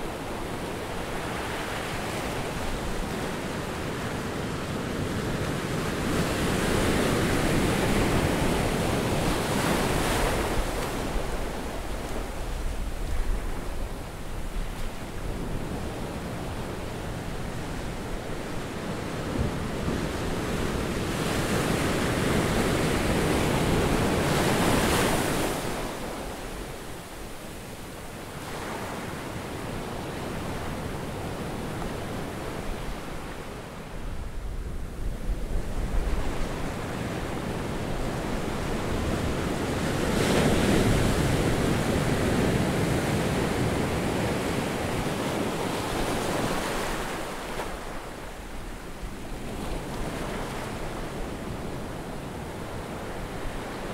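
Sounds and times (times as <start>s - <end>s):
wind rumbling on microphone: 0.0s - 28.2s, 30.4s - 53.9s.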